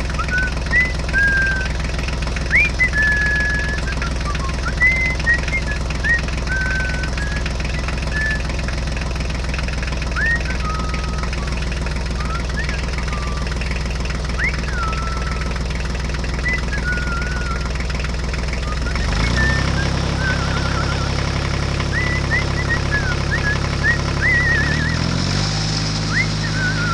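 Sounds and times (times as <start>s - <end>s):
small engine knocking: 0.0s - 26.9s.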